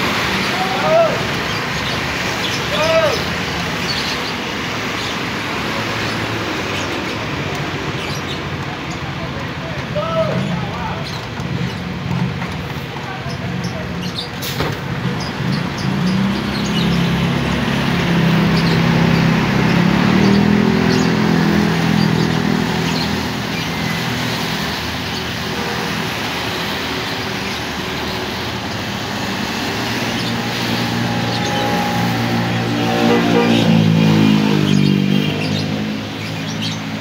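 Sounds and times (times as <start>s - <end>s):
traffic hiss on wet road: 0.0s - 37.0s.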